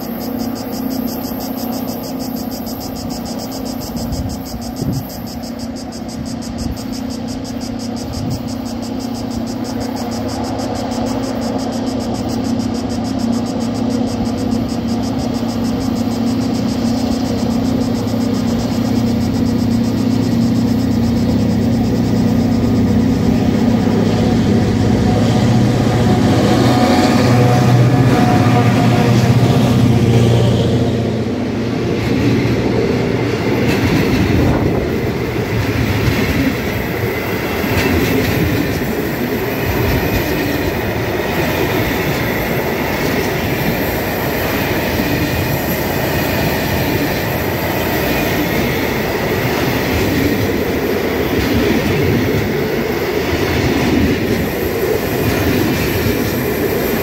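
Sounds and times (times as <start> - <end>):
train cars rolling: 0.0 - 57.0
train engine hum: 0.0 - 57.0.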